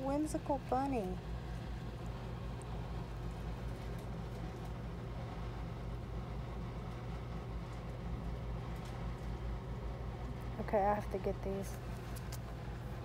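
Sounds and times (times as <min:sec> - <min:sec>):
low hum of shop background: 0:00.0 - 0:13.0.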